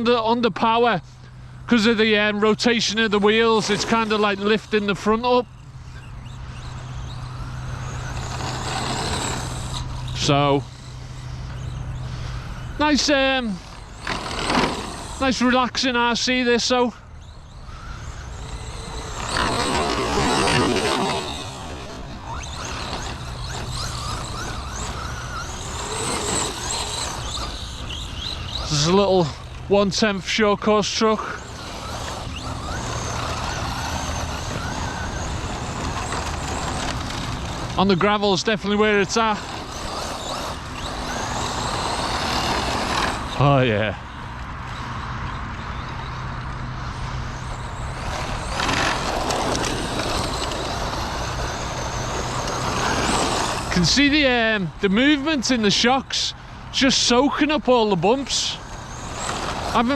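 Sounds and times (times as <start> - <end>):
rc truck motor whining: 0.0 - 59.9.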